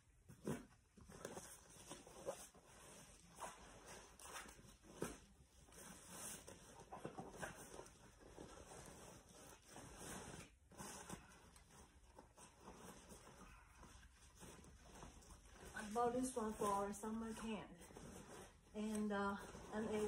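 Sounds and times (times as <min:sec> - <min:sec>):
nylon bag rustling: 0:01.0 - 0:20.0.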